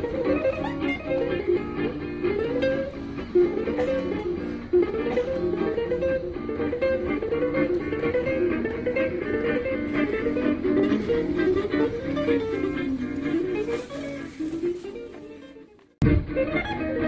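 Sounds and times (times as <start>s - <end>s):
electric guitar picking runs: 0.0s - 17.0s.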